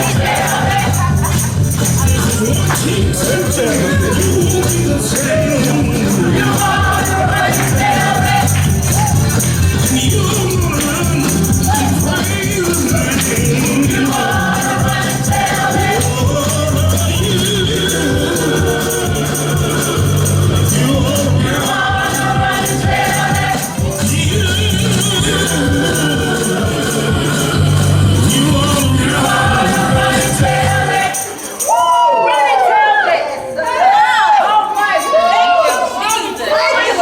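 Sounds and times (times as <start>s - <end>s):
steady beat: 0.0s - 31.6s
tambourine: 0.0s - 32.7s
choir singing gospel music: 0.0s - 37.0s.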